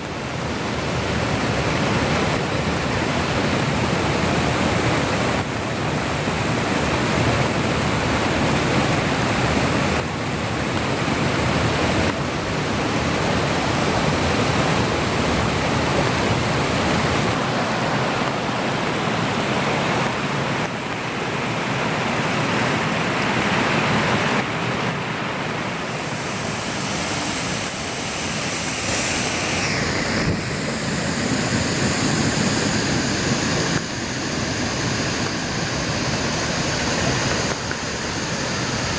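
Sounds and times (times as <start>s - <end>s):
rushing falling water: 0.0s - 38.9s.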